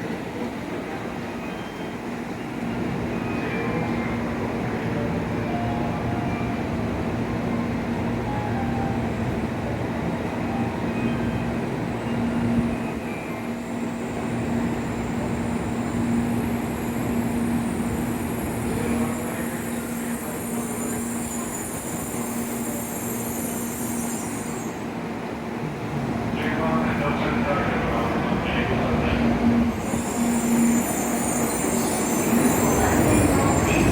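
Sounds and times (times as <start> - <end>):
train wheels rumbling: 6.1 - 33.9.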